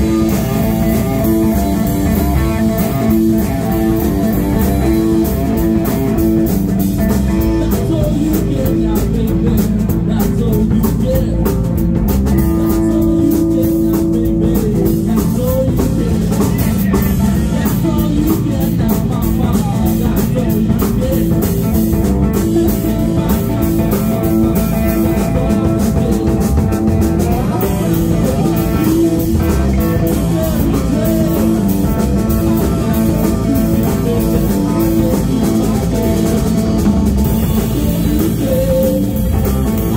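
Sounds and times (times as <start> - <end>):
blues-rock band playing: 0.0 - 39.9
electric guitar lead with bending notes: 0.0 - 39.9.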